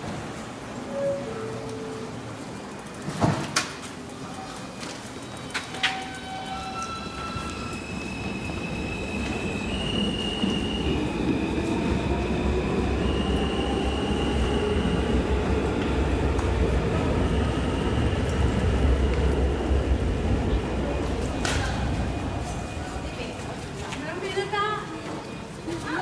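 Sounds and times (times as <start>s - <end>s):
subway train rumble: 0.0s - 26.0s.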